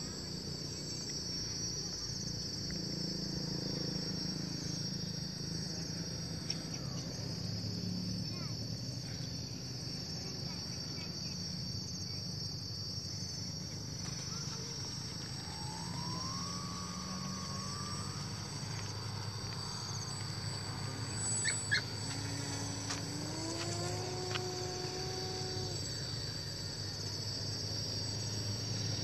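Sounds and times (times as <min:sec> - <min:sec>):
insects buzzing: 0:00.0 - 0:29.0
model plane motor whine: 0:00.0 - 0:29.0.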